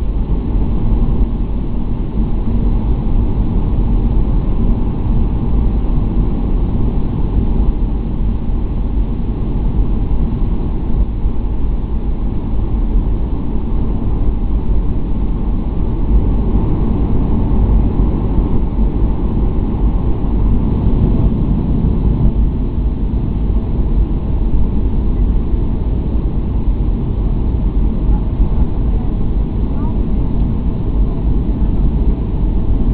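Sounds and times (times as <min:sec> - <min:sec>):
airliner cabin engine roar: 0:00.0 - 0:32.9.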